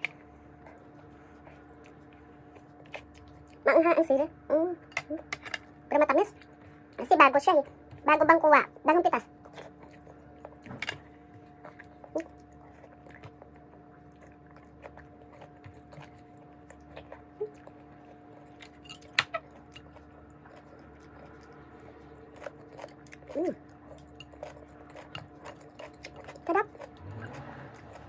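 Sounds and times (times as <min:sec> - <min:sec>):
close-up chewing and mouth sounds: 0:00.0 - 0:28.0
steady low hum: 0:00.0 - 0:28.0.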